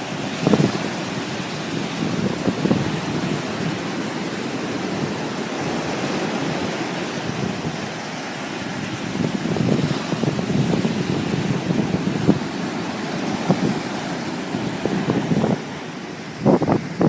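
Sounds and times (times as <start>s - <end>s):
sea waves washing in: 0.0s - 17.0s
wind gusting on microphone: 0.0s - 17.0s.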